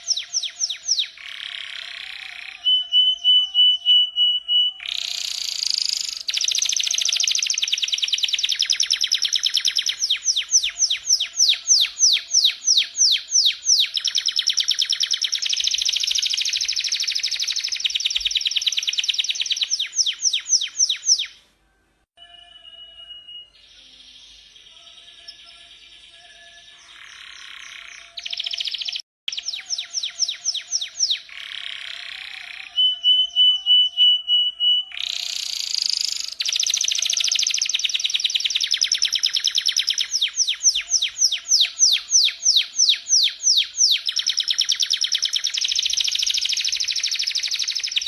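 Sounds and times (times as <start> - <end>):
held steady bird whistle: 0.0 - 21.4, 27.4 - 48.0.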